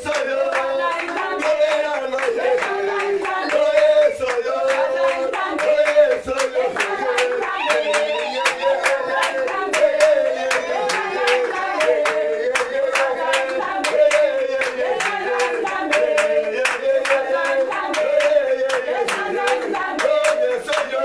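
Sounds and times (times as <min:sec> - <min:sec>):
congregation singing: 0:00.0 - 0:21.0
rhythmic hand clapping: 0:00.0 - 0:21.0.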